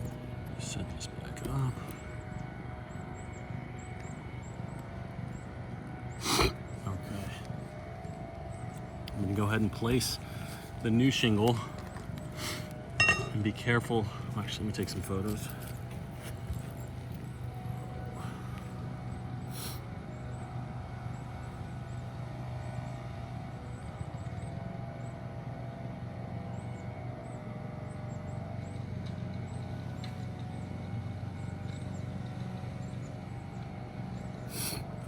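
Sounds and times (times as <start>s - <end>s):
mechanical drone with low hum: 0.0s - 35.0s.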